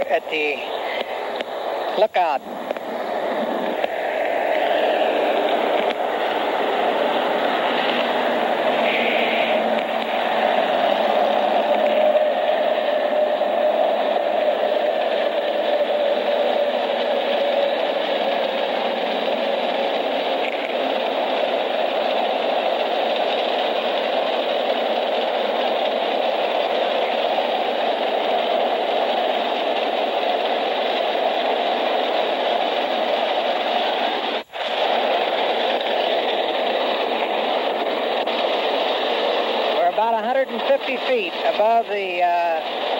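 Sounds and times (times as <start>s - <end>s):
diesel freight train passing: 0.0s - 42.9s.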